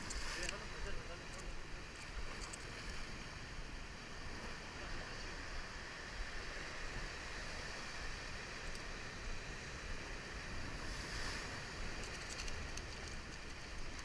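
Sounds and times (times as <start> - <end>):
ocean surf breaking on rocks: 0.0 - 14.0.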